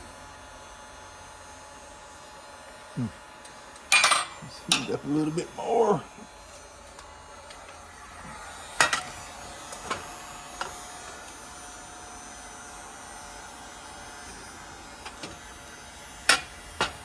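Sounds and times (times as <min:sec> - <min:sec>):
heat gun hum and hiss: 0:00.0 - 0:17.0.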